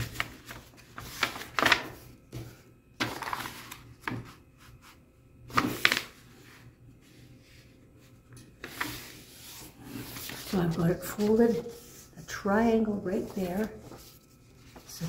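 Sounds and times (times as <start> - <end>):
paper being folded and creased: 0.0 - 12.4, 13.0 - 15.0.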